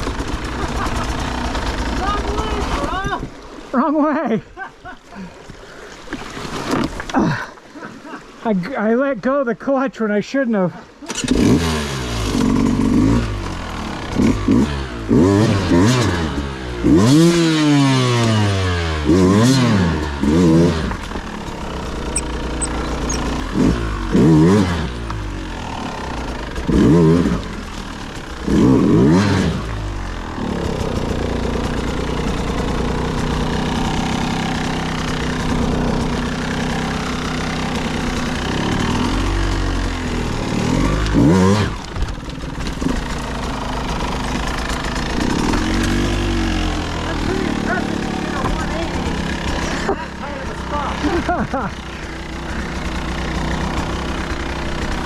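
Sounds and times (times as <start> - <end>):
dirt bike engine revving: 0.0 - 3.0, 11.1 - 55.0.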